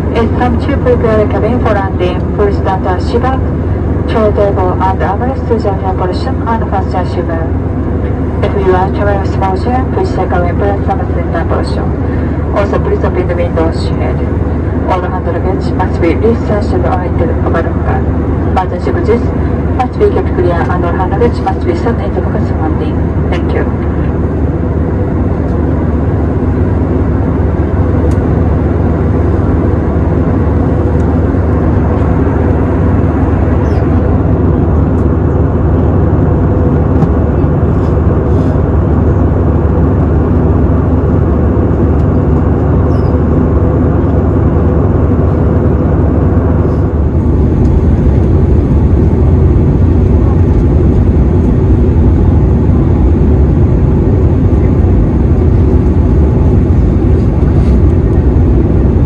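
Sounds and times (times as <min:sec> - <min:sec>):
jet cabin engine roar: 0:00.0 - 0:59.0.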